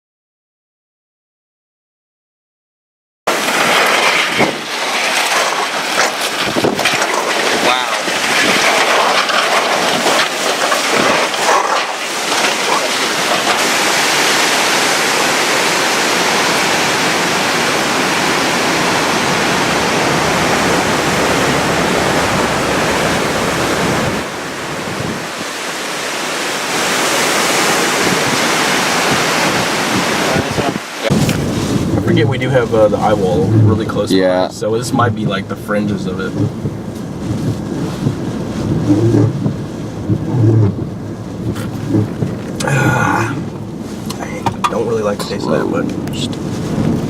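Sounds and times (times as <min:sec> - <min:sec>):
driving rain: 0:03.3 - 0:47.0
strong wind rushing: 0:03.3 - 0:47.0.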